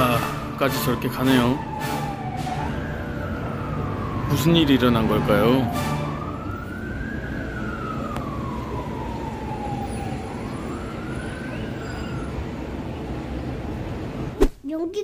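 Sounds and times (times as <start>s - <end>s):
emergency siren wailing: 0.0s - 14.3s
background noise: 0.0s - 15.0s.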